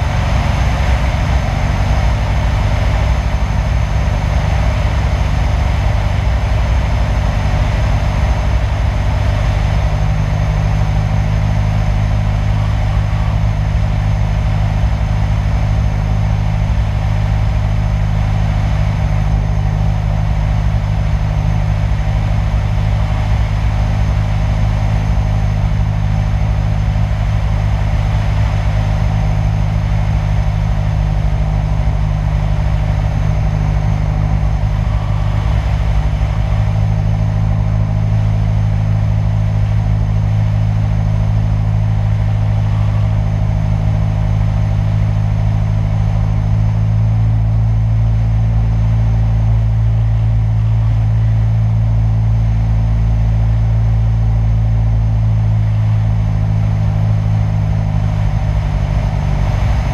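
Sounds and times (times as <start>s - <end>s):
propeller aircraft engine droning: 0.0s - 59.9s.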